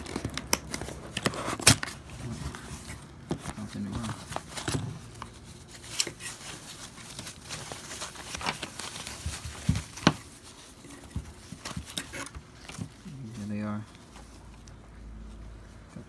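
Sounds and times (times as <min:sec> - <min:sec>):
packaging tearing and crinkling: 0:00.0 - 0:13.6
clicks and rustles: 0:00.0 - 0:16.0.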